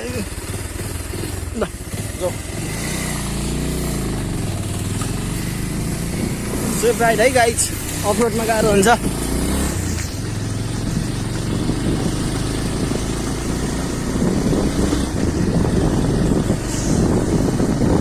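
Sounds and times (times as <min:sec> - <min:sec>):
motorcycle engine on rough track: 0:00.0 - 0:18.0.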